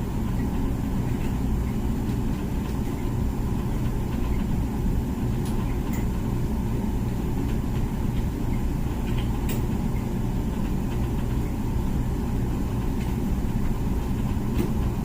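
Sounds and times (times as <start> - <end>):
dishwasher humming: 0.0 - 15.0.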